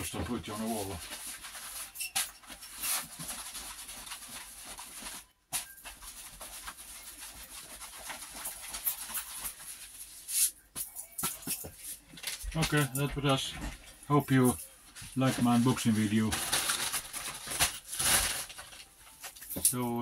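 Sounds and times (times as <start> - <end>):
paper and plastic rustling: 0.0 - 20.0.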